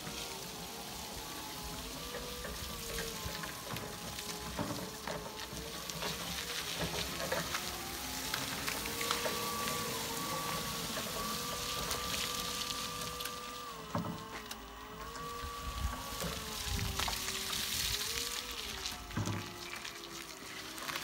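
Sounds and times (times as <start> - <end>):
electric forklift whine: 0.0 - 21.0
tyres rolling on wet gravel: 0.0 - 21.0.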